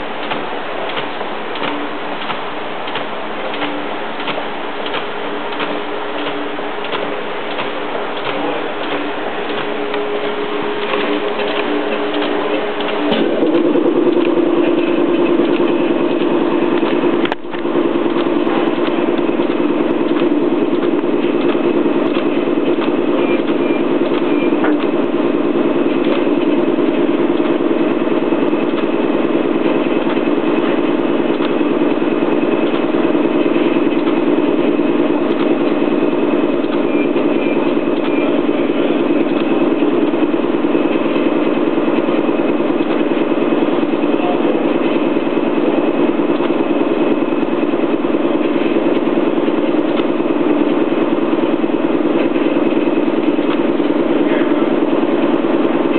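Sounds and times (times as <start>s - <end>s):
perforating machine droning: 0.0s - 55.9s.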